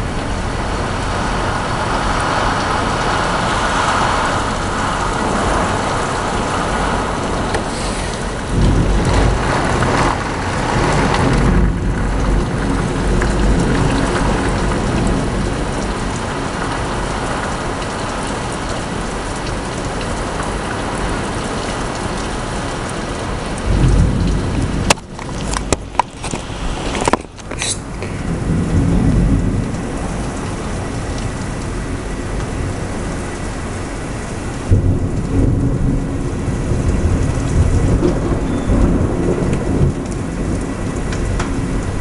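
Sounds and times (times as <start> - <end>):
heavy rain: 0.0 - 42.0
thunder rumbling: 0.0 - 42.0.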